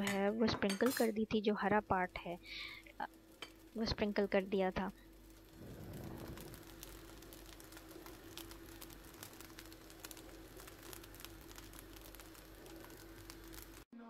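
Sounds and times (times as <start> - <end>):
low steady hum: 0.0 - 13.9
rice crackling in a pot: 0.0 - 13.9.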